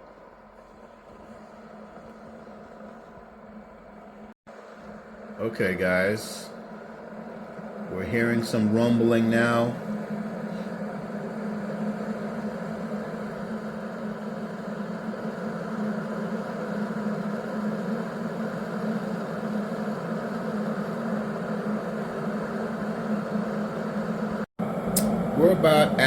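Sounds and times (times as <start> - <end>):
electric kettle heating water: 0.0 - 26.0.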